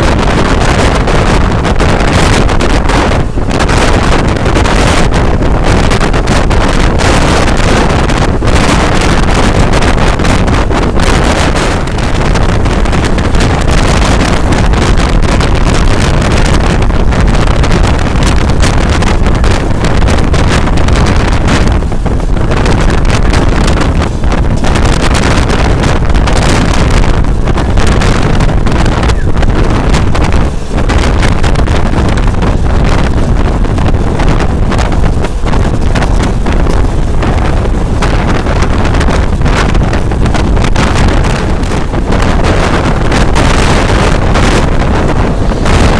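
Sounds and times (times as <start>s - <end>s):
train running noise: 0.0s - 45.9s
wind buffeting microphone: 0.0s - 45.9s.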